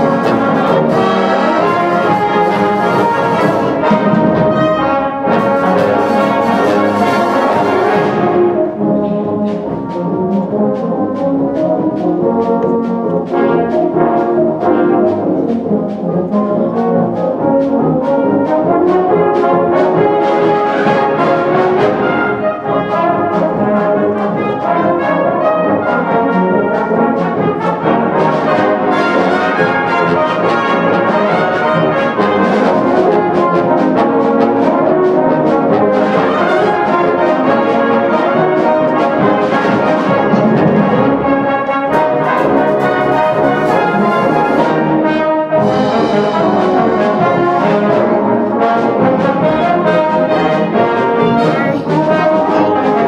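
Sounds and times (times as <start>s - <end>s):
brass band playing: 0.0s - 53.0s.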